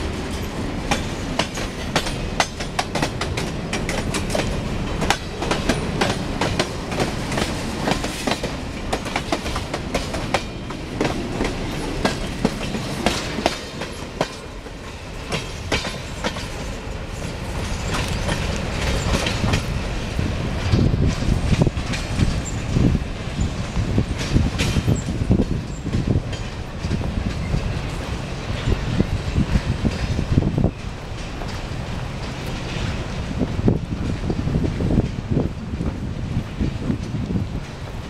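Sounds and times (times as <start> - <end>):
train rumble: 0.0 - 38.0
train wheels clicking over rail joints: 0.0 - 38.0.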